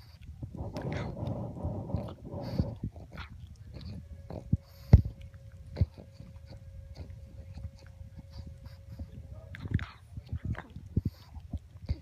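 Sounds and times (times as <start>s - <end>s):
dog chewing hard treat: 0.0s - 12.0s.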